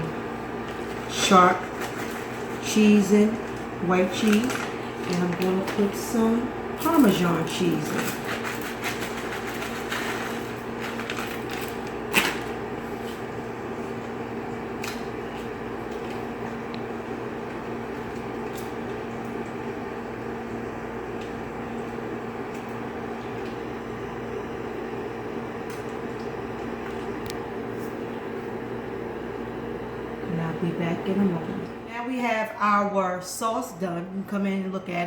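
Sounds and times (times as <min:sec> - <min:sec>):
kitchen appliance humming: 0:00.0 - 0:35.0.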